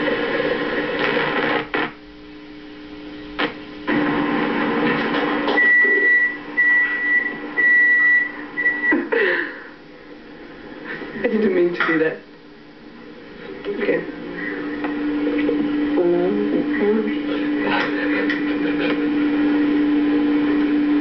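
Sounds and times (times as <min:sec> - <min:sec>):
steady hum and hiss: 0:00.0 - 0:21.0.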